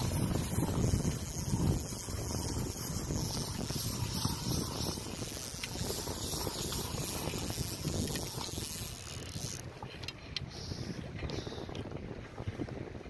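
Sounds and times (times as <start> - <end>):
fishing reel winding: 0.0 - 11.8
wind noise on microphone: 0.0 - 13.0
faint ticks: 0.5 - 11.9.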